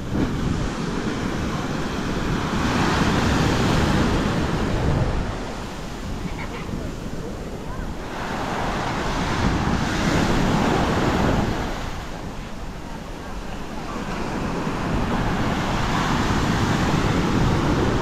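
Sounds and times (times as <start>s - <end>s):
ocean surf breaking: 0.0s - 18.0s
wind on microphone: 0.0s - 18.0s.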